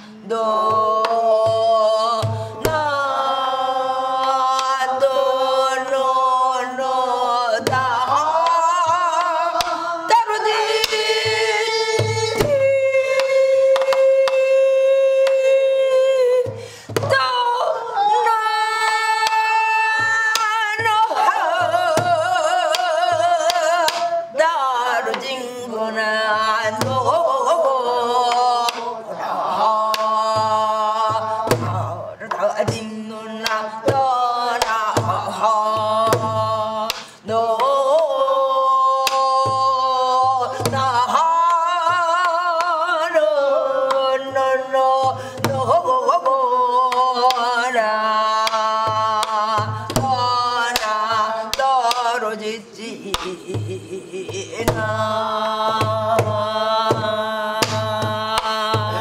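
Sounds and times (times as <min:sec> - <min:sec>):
woman singing with vibrato: 0:00.0 - 0:59.0.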